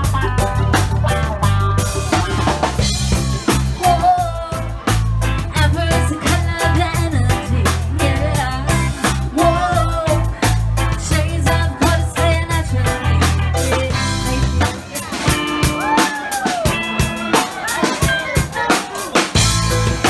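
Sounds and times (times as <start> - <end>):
bass and guitar: 0.0 - 20.0
drum kit off-beat groove: 0.0 - 20.0
person singing: 0.6 - 19.3.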